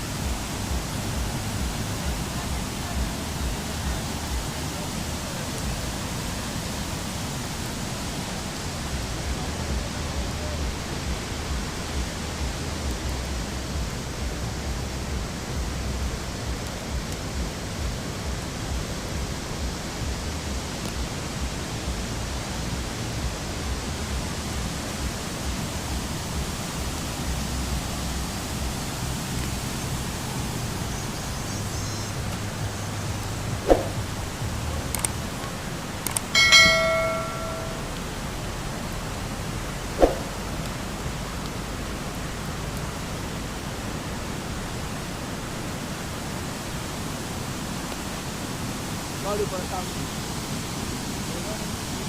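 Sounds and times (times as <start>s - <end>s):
fast-flowing water rushing: 0.0s - 52.0s.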